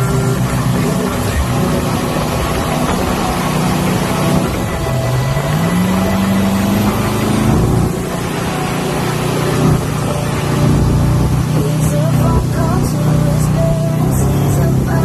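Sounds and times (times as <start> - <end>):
motorboat engine: 0.0 - 15.0
water and wind rushing: 0.0 - 15.0.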